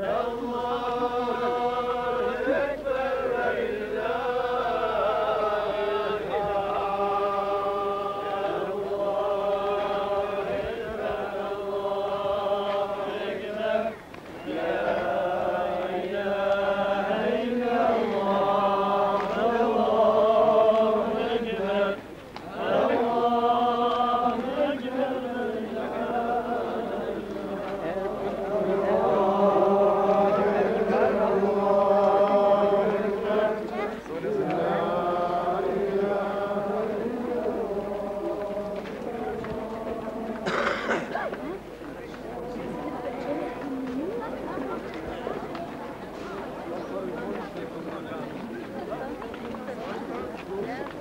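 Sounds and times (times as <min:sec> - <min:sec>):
men chanting in unison: 0:00.0 - 0:41.0.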